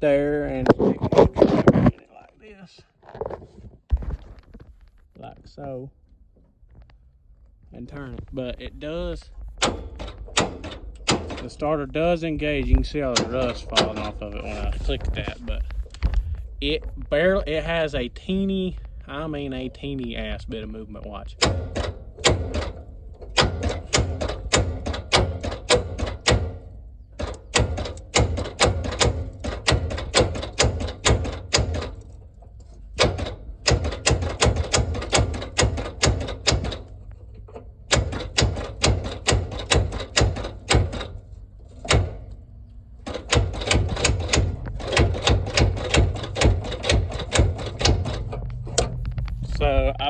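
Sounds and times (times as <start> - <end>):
engine starter clattering: 7.8 - 50.0.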